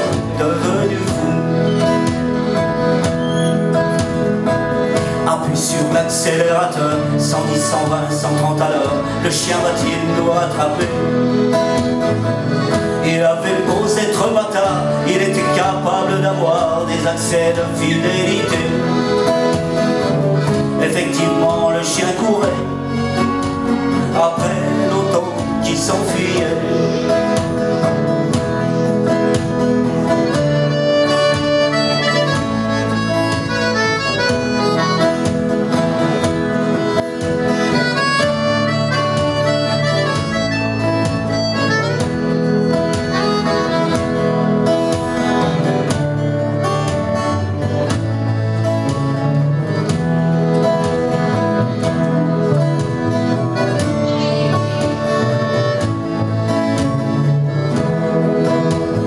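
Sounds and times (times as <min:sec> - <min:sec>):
accordion: 0:00.0 - 0:59.0
acoustic band playing: 0:00.0 - 0:59.0
double bass: 0:00.0 - 0:59.0
guitar: 0:00.0 - 0:59.0.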